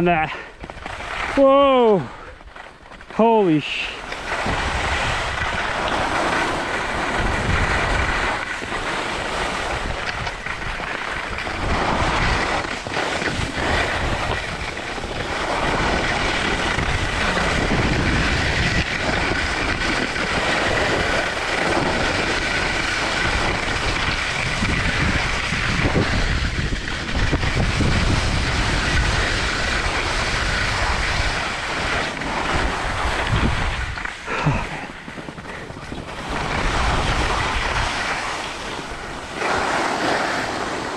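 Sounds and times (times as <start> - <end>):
skis scraping on packed snow: 0.0 - 40.9
wind buffeting microphone: 3.8 - 40.9.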